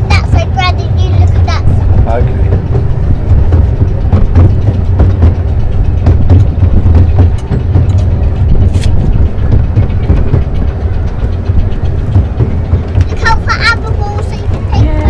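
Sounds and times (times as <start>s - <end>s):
model train rumbling on track: 0.0s - 15.0s
wheels clicking and knocking: 0.0s - 15.0s.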